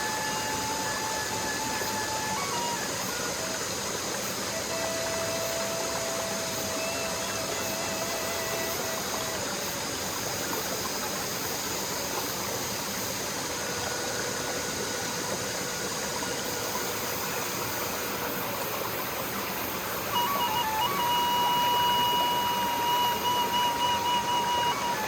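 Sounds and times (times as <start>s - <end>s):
bamboo flute notes: 0.0s - 25.0s
stream rushing over rocks: 0.0s - 25.0s.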